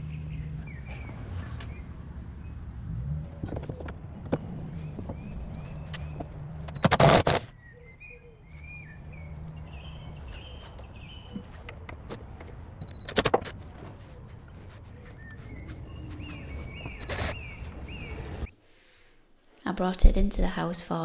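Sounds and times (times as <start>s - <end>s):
birds chirping: 0.0s - 18.6s.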